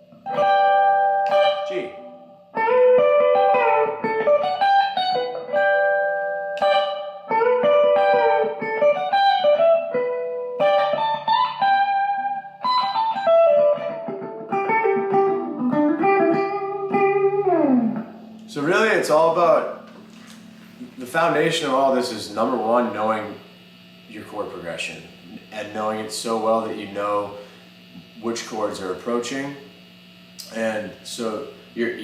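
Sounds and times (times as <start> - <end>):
electric guitar country licks: 0.0 - 32.0.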